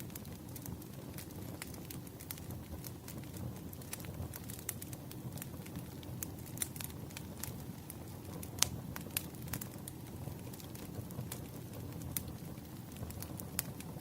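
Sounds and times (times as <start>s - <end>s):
fire crackles and pops: 0.0s - 14.0s
rumble of flames: 0.0s - 14.0s.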